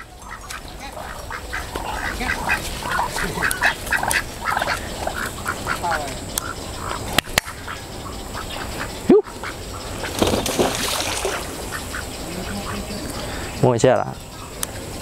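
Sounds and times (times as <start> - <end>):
ducks quacking: 0.0 - 14.5.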